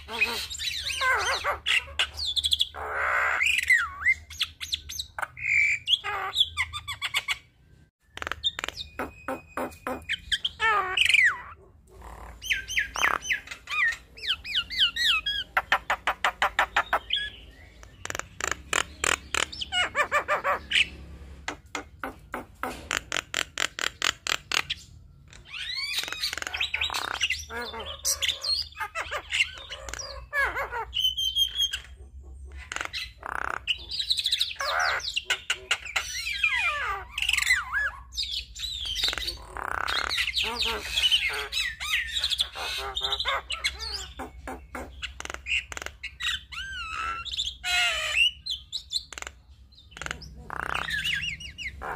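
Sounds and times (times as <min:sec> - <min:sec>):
myna bird singing: 0:00.0 - 0:51.9.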